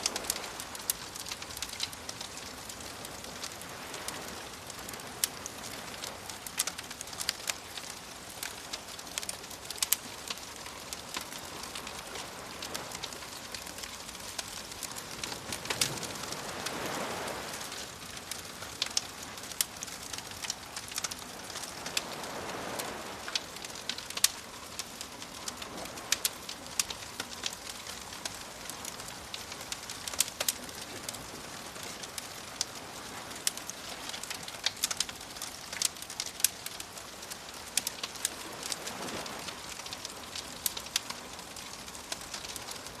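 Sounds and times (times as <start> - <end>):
gentle waves washing: 0.0 - 43.0
wood fire crackling and popping: 0.0 - 43.0.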